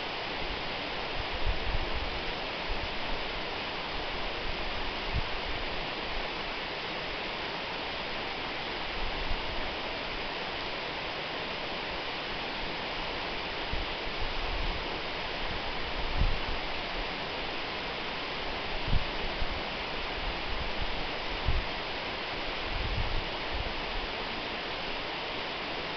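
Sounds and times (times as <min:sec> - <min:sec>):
waterfall rushing: 0:02.1 - 0:25.9.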